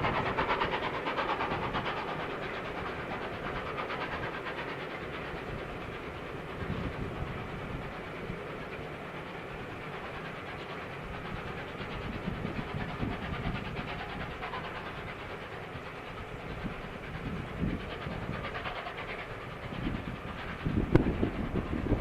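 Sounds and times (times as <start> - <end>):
fast clickety-clack of wheels: 0.0 - 22.0
train rumble and wheel hiss: 0.0 - 22.0.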